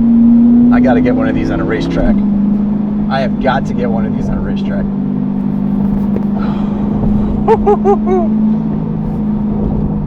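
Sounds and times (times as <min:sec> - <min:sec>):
car engine droning at cruise: 0:00.0 - 0:10.0.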